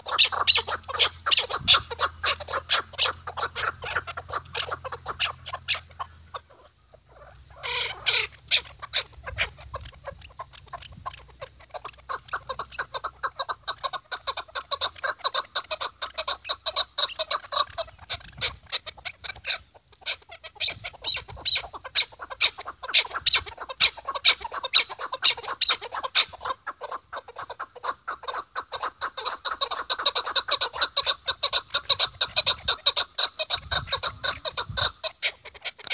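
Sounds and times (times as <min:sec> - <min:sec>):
partridge clucking calls: 0:00.0 - 0:35.9.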